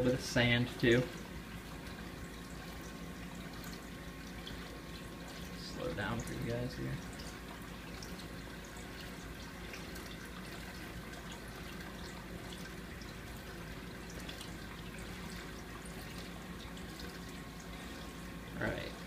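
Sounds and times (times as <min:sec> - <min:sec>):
aquarium water trickling: 0:00.0 - 0:19.0
low steady hum: 0:00.0 - 0:19.0
small water drips: 0:00.0 - 0:19.0.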